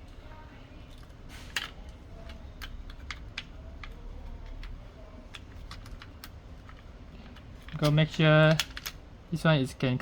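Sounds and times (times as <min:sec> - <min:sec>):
small plastic and metal parts clicking: 0:00.9 - 0:09.0.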